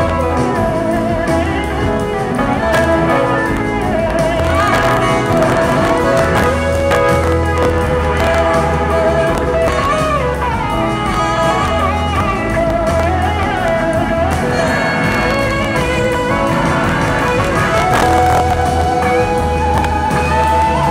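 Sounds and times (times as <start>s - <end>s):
electric guitar lead: 0.0s - 20.9s
live band playing blues rock: 0.0s - 20.9s.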